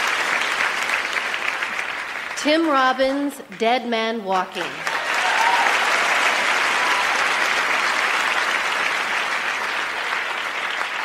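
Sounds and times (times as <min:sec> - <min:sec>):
audience applauding: 0:00.0 - 0:02.7, 0:04.6 - 0:11.0.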